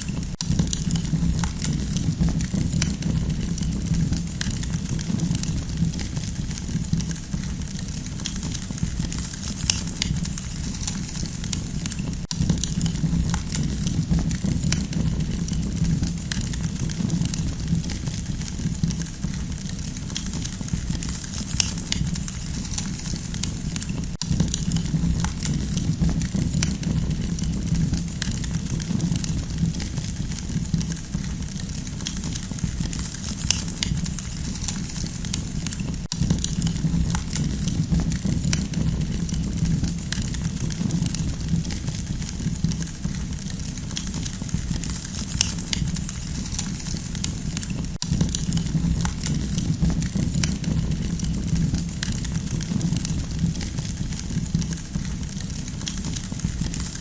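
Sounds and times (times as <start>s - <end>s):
campfire crackling: 0.0s - 57.0s
fire popping and snapping: 0.0s - 57.0s.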